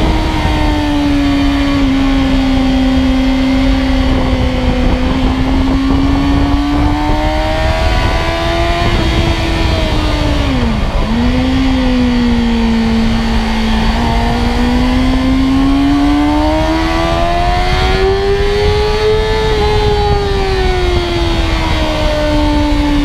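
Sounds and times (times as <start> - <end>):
motorcycle engine at speed: 0.0 - 23.0
wind rushing: 0.0 - 23.0.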